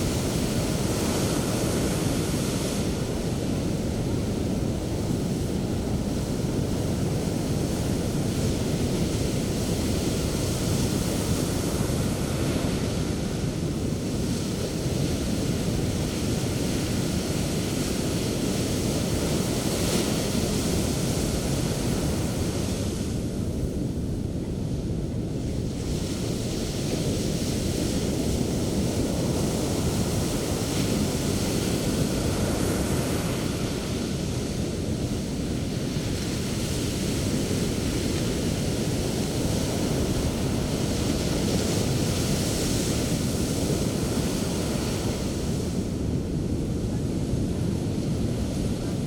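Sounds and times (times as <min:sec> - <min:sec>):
surf rumbling: 0:00.0 - 0:49.0.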